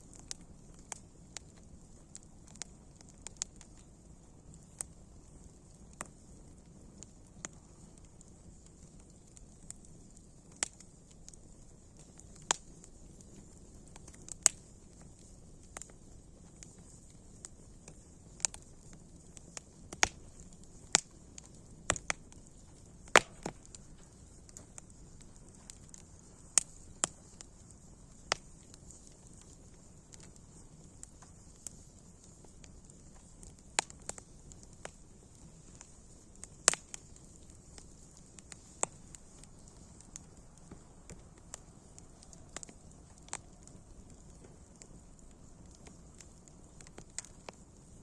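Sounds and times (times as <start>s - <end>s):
faint steady hiss: 0.0s - 48.0s
low rush of burning: 0.0s - 48.0s
wood fire popping and snapping: 0.0s - 48.0s.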